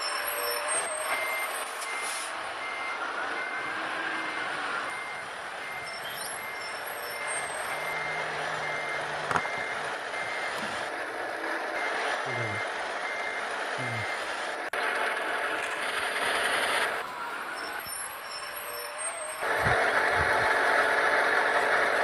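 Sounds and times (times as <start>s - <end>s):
truck reversing alarm beeping: 0.0s - 22.0s.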